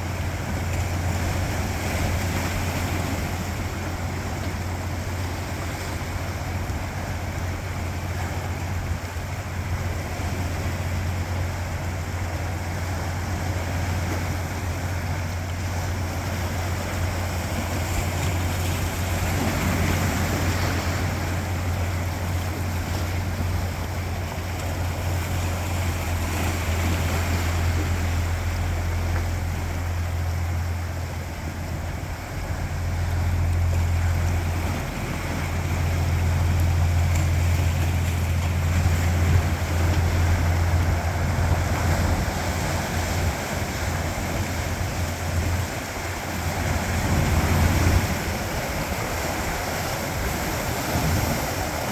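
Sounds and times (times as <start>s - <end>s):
low rumble: 0.0s - 51.9s
sea waves washing over rocks: 0.0s - 51.9s.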